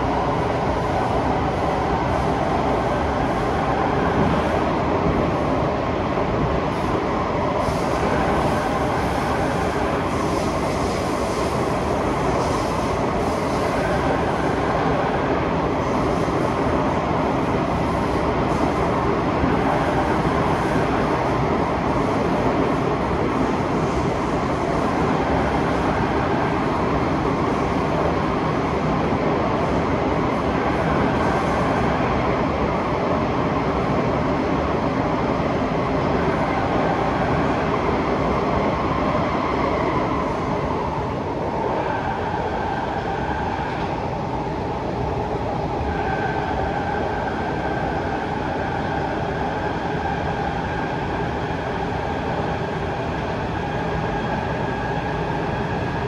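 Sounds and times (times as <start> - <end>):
metro train running: 0.0 - 56.0.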